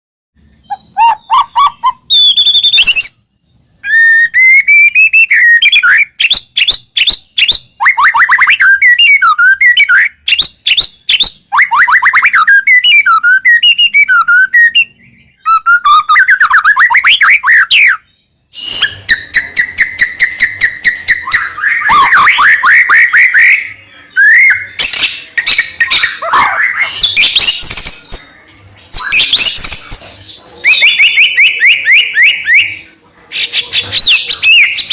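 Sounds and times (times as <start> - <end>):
bird singing whistles and trills: 0.4 - 34.9.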